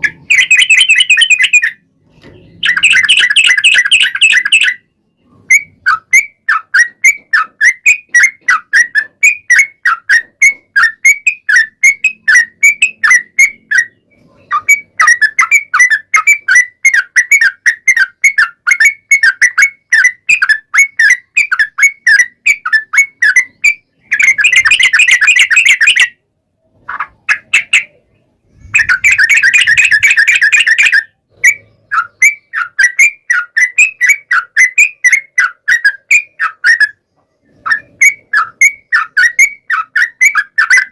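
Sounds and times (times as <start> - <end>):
bulbul singing whistled notes: 0.0 - 1.8, 2.4 - 26.2, 27.3 - 37.0
bird rapid trill: 0.0 - 26.2, 26.8 - 40.9.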